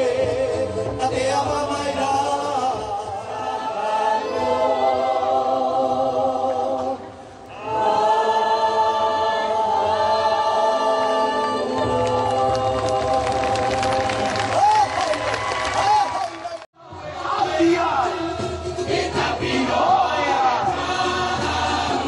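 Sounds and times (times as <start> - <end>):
group singing in harmony: 0.0 - 14.6, 16.8 - 22.0.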